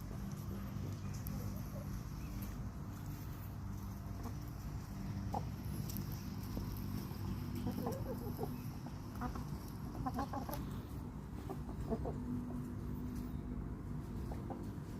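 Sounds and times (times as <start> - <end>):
chickens clucking: 0.0 - 14.9
steady low hum: 0.0 - 14.9.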